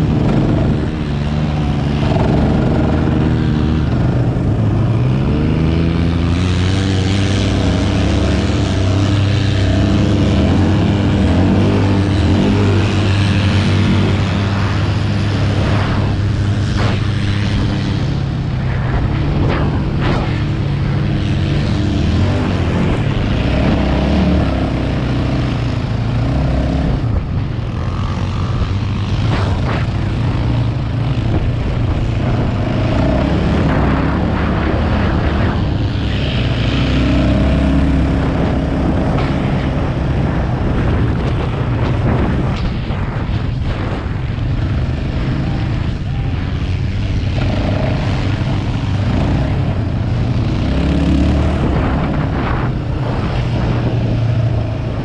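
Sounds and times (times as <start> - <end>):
atv engine under throttle: 0.0 - 55.0
wind noise on microphone: 0.0 - 55.0.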